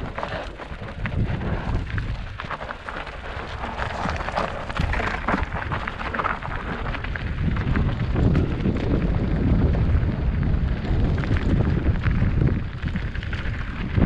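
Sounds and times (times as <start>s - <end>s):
gritty noise: 0.0s - 14.0s
wind buffeting microphone: 0.0s - 14.0s.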